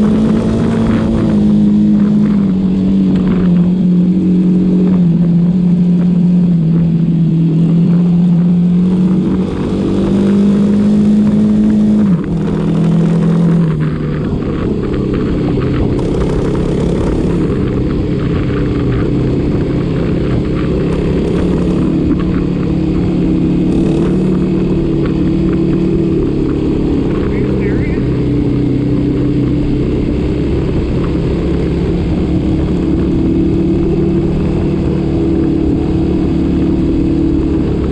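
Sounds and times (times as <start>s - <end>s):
motorcycle engine running: 0.0s - 37.9s
wind rush: 0.0s - 37.9s.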